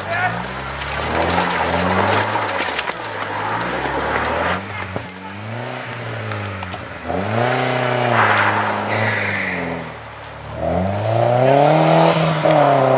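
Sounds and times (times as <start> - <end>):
rally car engine revving: 0.0 - 12.9.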